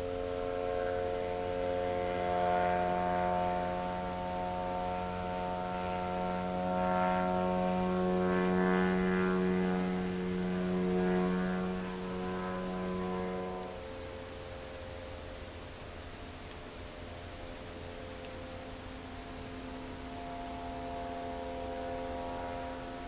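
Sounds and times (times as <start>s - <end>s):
model plane engine droning: 0.0s - 23.0s.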